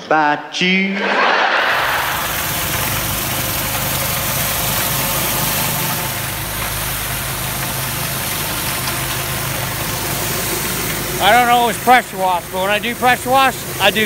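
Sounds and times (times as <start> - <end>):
low motor hum: 1.7 - 14.0
water jets hissing on paving: 1.7 - 14.0.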